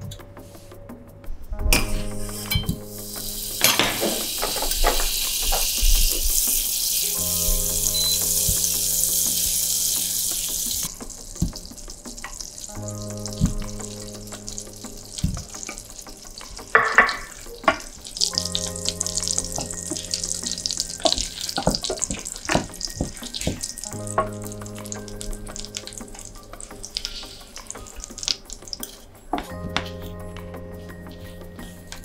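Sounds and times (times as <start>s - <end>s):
butter sizzling in a saucepan: 2.2s - 29.1s.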